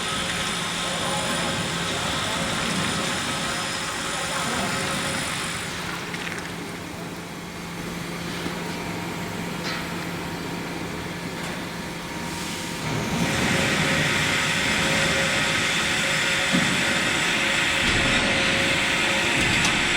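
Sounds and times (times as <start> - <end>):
induction furnace humming: 0.0 - 19.9.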